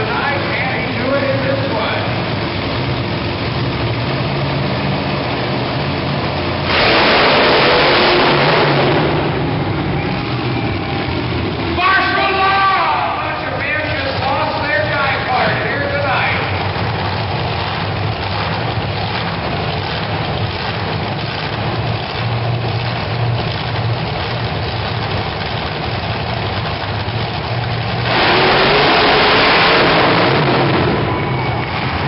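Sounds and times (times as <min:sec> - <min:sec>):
monster truck engines rumbling: 0:00.0 - 0:32.0.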